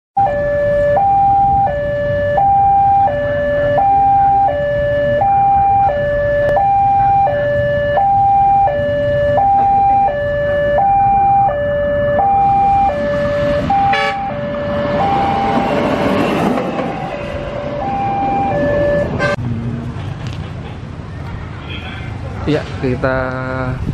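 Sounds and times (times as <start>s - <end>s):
level crossing two-tone alarm: 0.2s - 19.4s
train engine and wheels passing: 0.4s - 23.1s.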